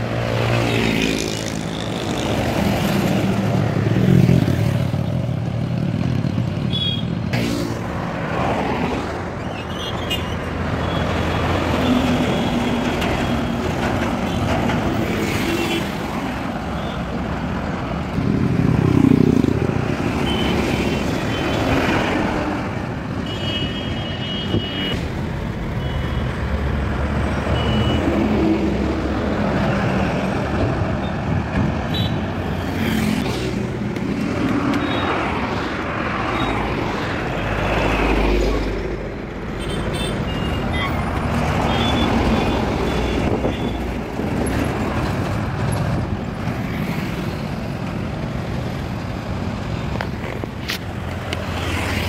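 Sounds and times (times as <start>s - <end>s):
motorcycles passing: 0.0s - 9.4s, 10.4s - 23.2s, 28.2s - 39.4s, 41.2s - 52.0s
diesel trucks passing: 0.0s - 23.2s, 24.4s - 52.0s.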